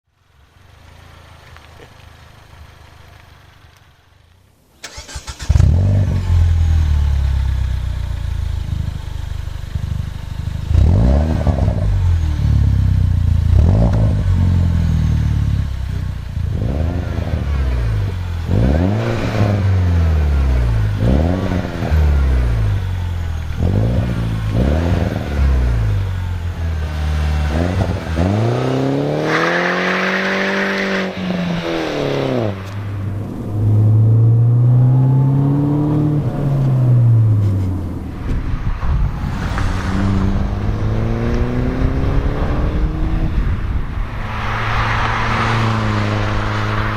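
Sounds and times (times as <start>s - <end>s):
car engine starting and revving: 4.8s - 46.9s.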